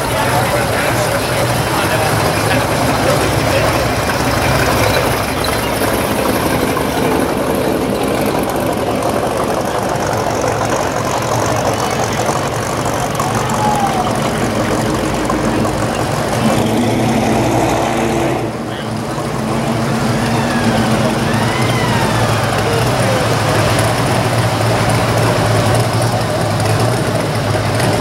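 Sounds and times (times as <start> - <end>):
car engines idling: 0.0 - 28.0.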